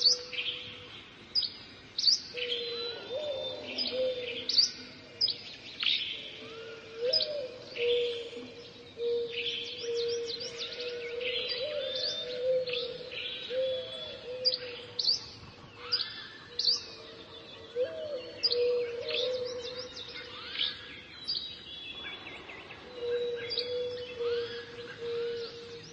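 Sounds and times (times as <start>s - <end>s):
birds chirping and calling: 0.0s - 25.9s.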